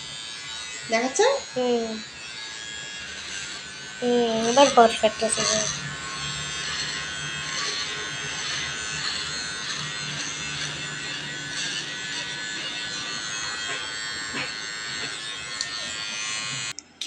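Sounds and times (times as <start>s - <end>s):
electric hair trimmer buzzing: 0.0s - 17.0s.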